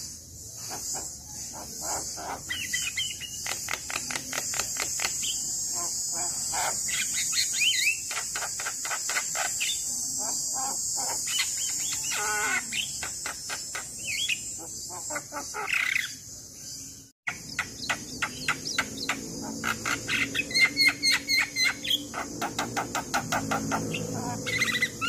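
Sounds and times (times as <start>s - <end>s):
bird chattering and whistling: 0.6s - 16.2s, 17.3s - 25.0s.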